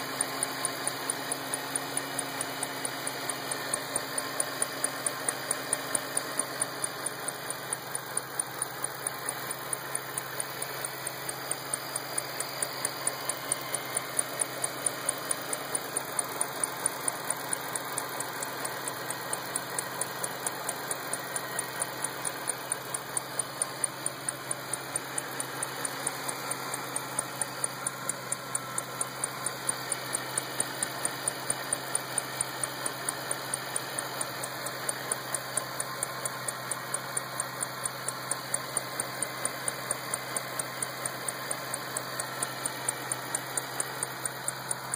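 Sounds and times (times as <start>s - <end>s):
car engine running: 0.0s - 44.9s
sharp regular ticking: 0.2s - 44.9s.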